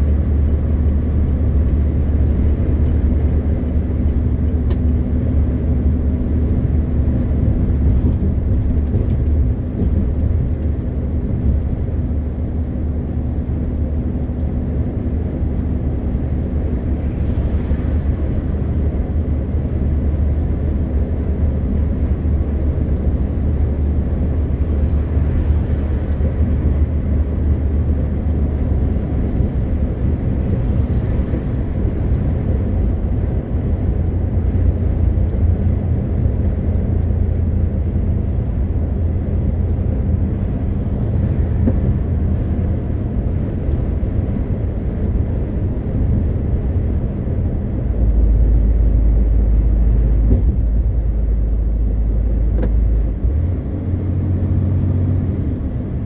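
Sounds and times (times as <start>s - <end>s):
road noise: 0.0s - 56.0s
truck diesel engine driving: 0.0s - 56.0s.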